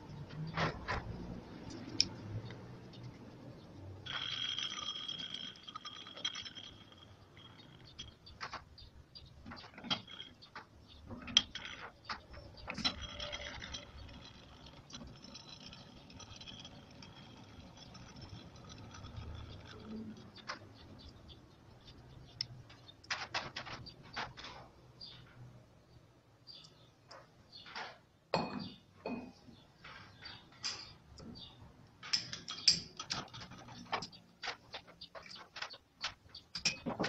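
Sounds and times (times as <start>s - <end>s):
continuous metallic rattle: 0.0s - 25.7s, 26.5s - 37.0s
sharp metal clicks and knocks: 0.1s - 25.6s, 26.5s - 37.0s.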